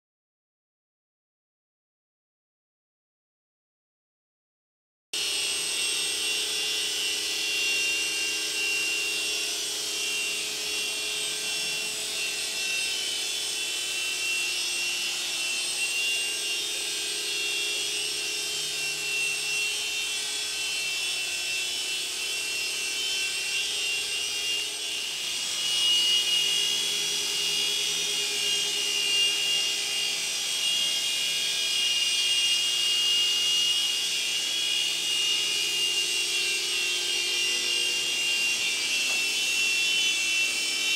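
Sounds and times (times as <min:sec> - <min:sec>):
rotor buzz: 0:05.2 - 0:40.9
toy helicopter motor whine: 0:05.2 - 0:40.9.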